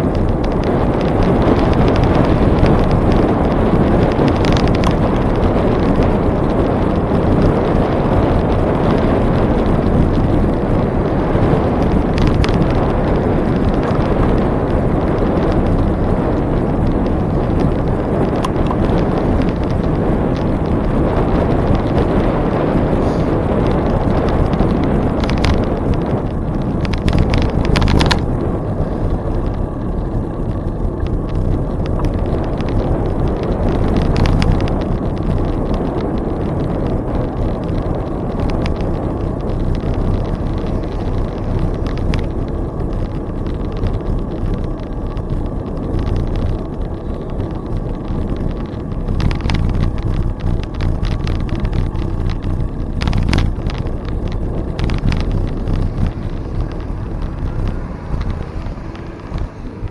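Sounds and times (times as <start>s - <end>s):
gusts or bumps: 0.0s - 59.9s
small rattles: 0.0s - 59.9s
tyres rumbling on trail: 0.0s - 59.9s
wind rushing over microphone: 0.0s - 59.9s.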